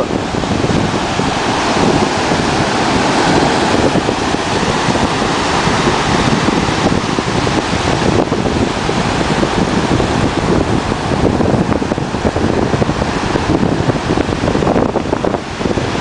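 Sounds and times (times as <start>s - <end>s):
sea surf breaking: 0.0s - 16.0s
wind buffeting microphone: 0.0s - 16.0s.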